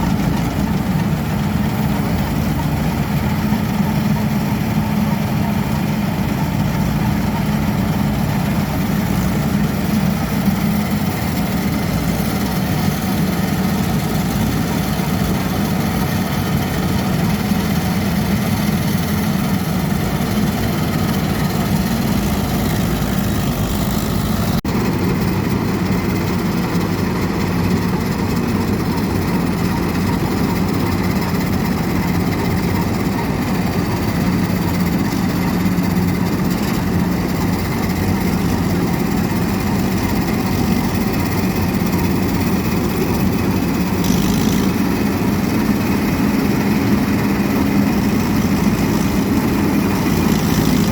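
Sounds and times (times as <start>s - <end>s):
diesel engine running loudly: 0.0s - 50.9s.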